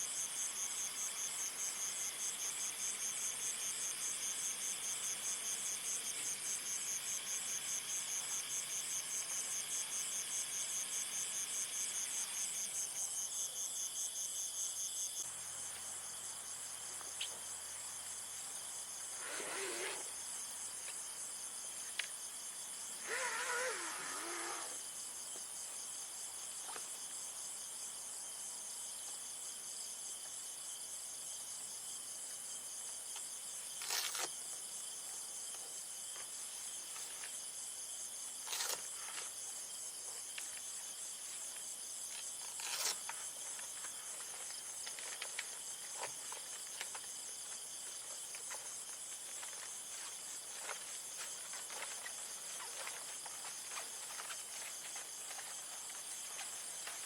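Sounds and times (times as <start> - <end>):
insects chorus pulsing: 0.0 - 28.3, 36.1 - 57.0.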